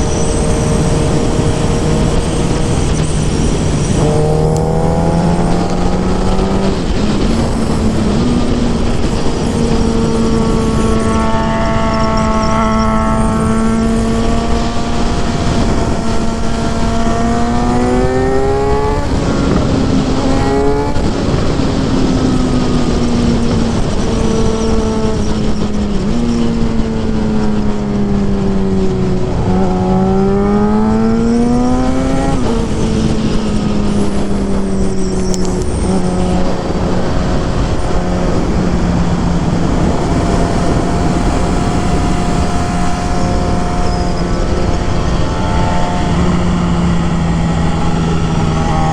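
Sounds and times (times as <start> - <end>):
constant rushing noise: 0.0 - 48.9
motorcycle engine revving: 0.0 - 48.9.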